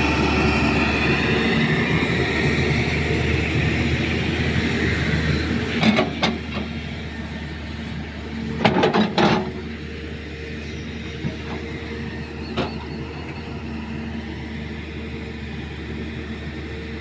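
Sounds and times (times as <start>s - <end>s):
digger diesel engine running: 0.0s - 17.0s.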